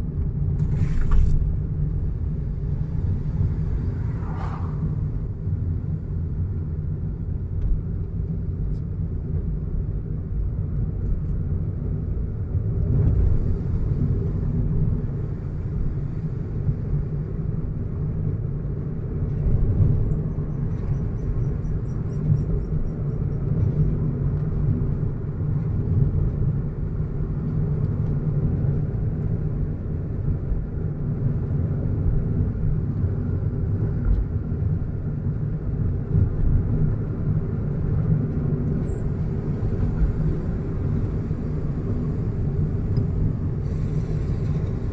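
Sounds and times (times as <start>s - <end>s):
car driving on road: 0.0s - 44.9s.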